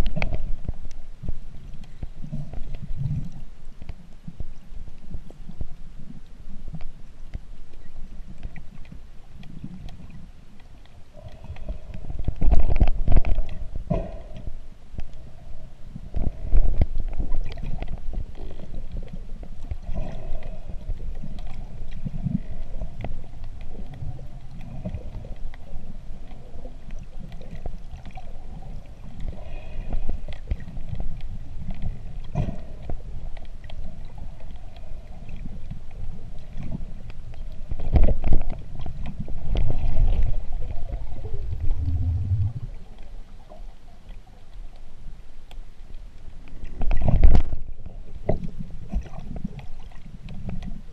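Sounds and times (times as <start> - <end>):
low rumbling underwater noise: 0.0 - 50.9.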